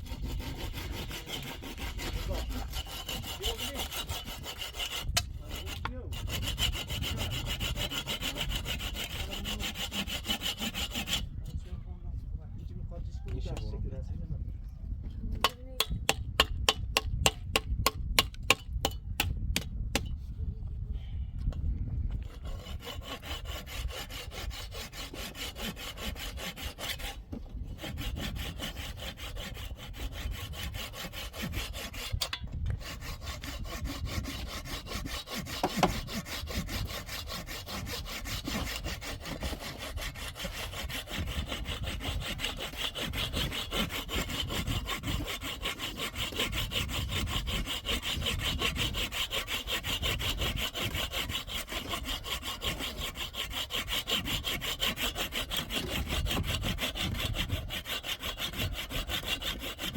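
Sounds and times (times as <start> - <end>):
hand rasping strokes: 0.0 - 11.2, 22.2 - 59.9
steady sawing rasp: 0.0 - 11.7, 15.4 - 20.1, 22.1 - 59.9.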